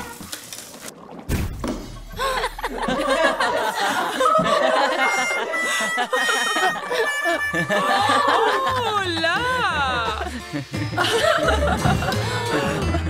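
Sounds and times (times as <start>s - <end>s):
people laughing and snickering: 2.1s - 13.0s.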